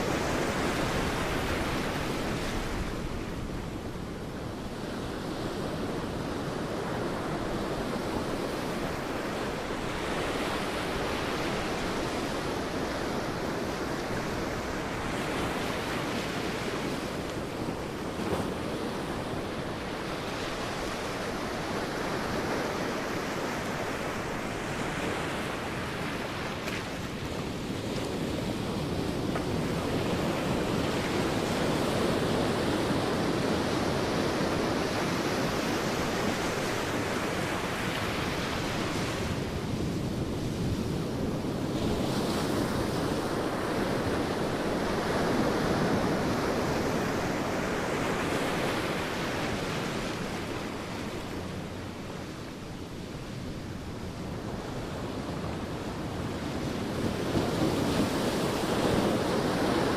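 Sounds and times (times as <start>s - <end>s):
sea waves breaking on a beach: 0.0s - 59.9s.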